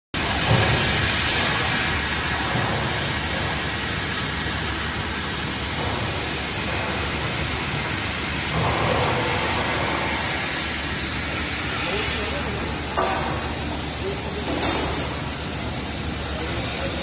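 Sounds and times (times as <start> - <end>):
laser cutting machine hiss: 0.2 - 17.0
low machine hum: 0.2 - 17.0.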